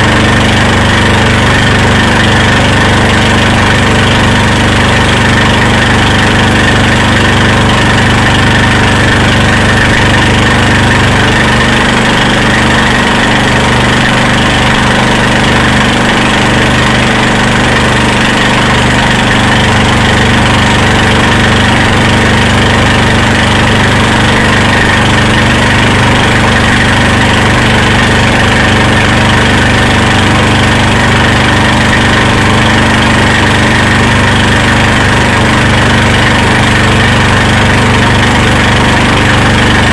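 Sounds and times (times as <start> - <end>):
motorboat engine drone: 0.0 - 39.9.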